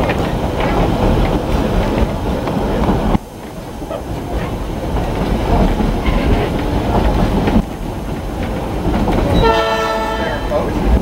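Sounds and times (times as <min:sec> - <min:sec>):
train rolling along track: 0:00.0 - 0:11.0
wheels clacking: 0:00.0 - 0:11.0.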